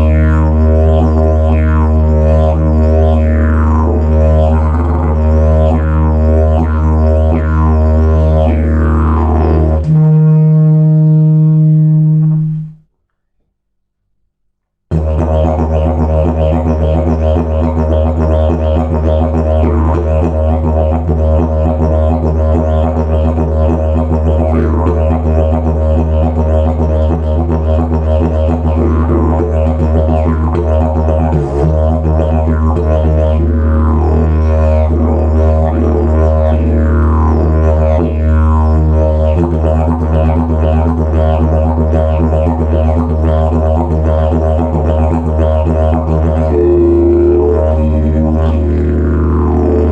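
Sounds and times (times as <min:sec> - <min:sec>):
didgeridoo drone: 0:00.0 - 0:12.7, 0:14.9 - 0:49.9.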